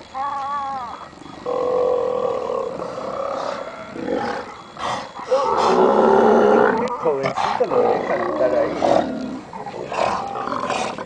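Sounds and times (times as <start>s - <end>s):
sea lions roaring: 1.4s - 11.0s.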